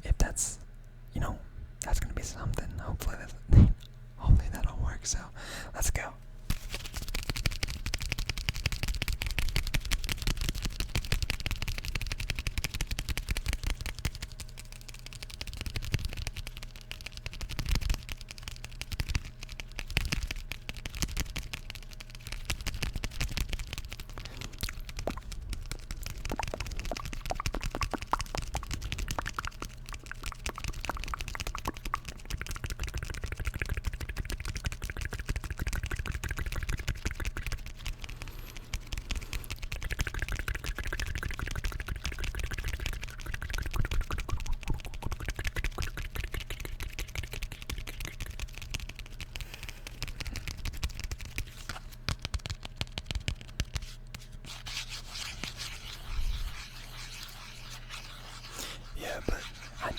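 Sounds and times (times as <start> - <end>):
rapid tapping on an object: 6.5 - 58.6.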